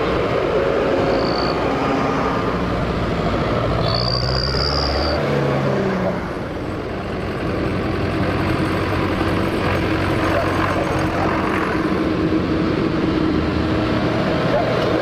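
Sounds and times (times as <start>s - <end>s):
tractor engines driving past: 0.0s - 15.0s.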